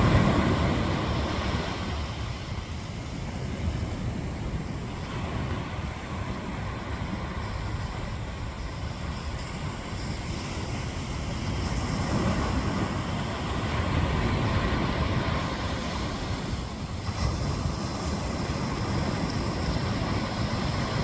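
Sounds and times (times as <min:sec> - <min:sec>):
ocean surf washing onto beach: 0:00.0 - 0:21.0
wind rumbling on microphone: 0:00.0 - 0:21.0.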